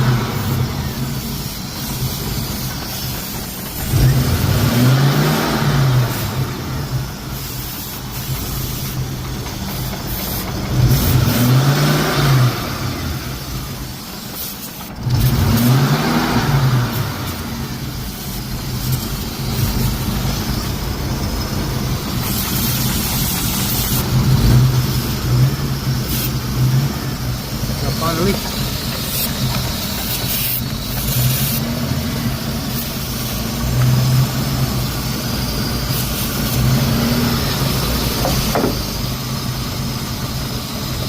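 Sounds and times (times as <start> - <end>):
car engine idling: 0.0 - 41.0
engine revving: 0.0 - 41.0.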